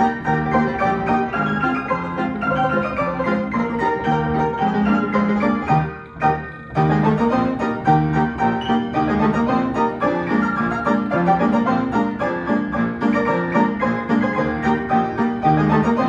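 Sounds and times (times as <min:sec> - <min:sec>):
piano playing a march: 0:00.0 - 0:16.0.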